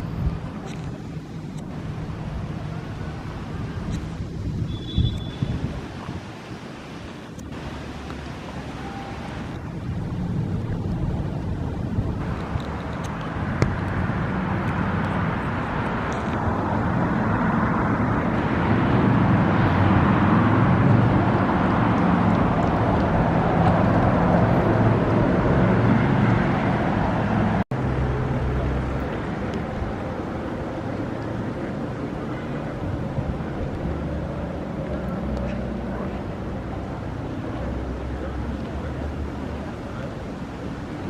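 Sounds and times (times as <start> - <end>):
steady outdoor noise: 0.0 - 41.0.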